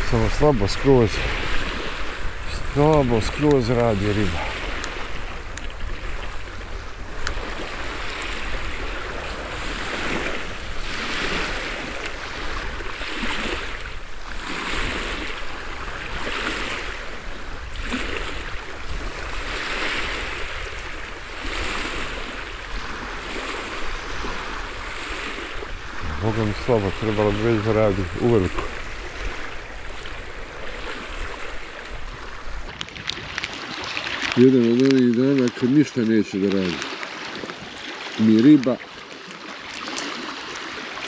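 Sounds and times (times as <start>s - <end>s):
small waves lapping on pebbles: 0.0s - 41.0s.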